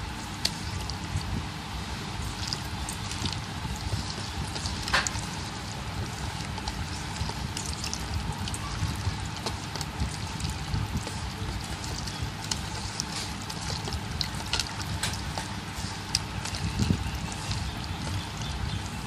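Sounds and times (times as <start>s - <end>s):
hand kneading wet prawns: 0.0s - 19.0s
small wet clicks: 0.4s - 19.0s.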